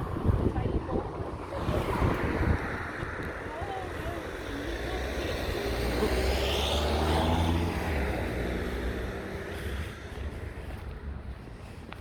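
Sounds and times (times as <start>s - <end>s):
engine passing by: 0.1s - 10.7s.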